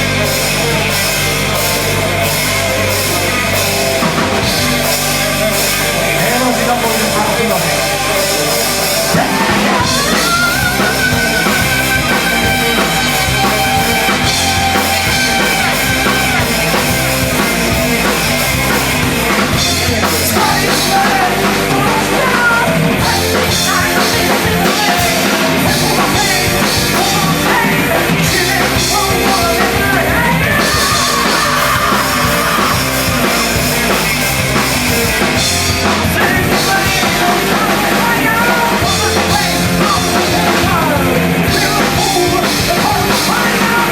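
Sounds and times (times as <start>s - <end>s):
live punk band playing: 0.0s - 43.9s
yelled vocals: 0.0s - 43.9s.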